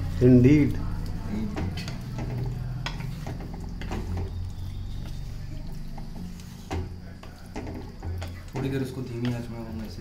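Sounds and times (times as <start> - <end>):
wooden spatula stirring thick gravy: 0.0 - 10.0.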